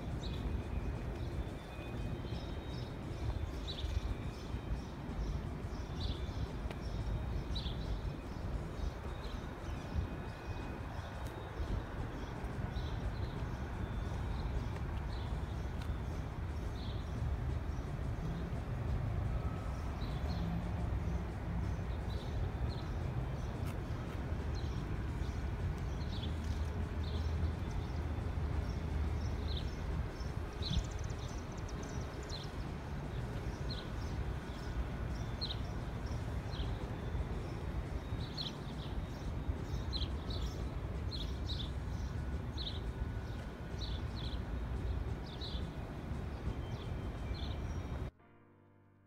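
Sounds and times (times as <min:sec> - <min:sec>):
wind and city rumble: 0:00.0 - 0:48.2.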